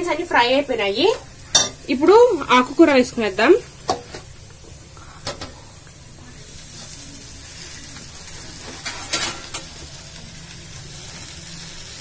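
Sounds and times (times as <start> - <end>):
greens sizzling in pan: 0.0 - 12.0.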